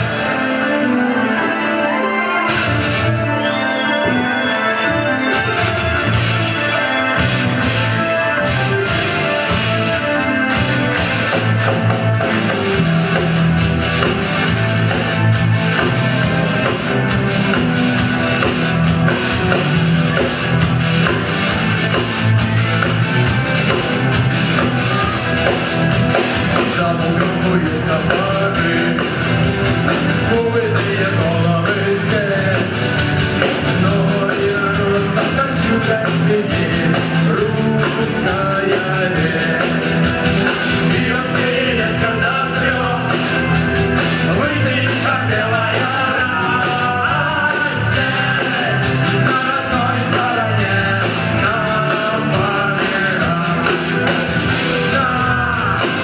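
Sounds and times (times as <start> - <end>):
rock band music with guitar: 0.0 - 56.0
steady drum beat: 5.8 - 56.0.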